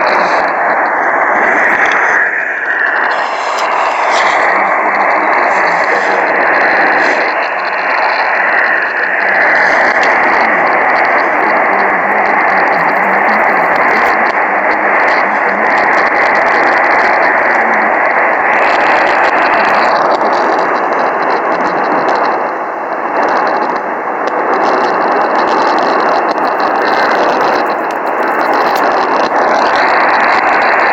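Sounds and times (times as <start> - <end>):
radio static hiss: 0.0 - 30.9.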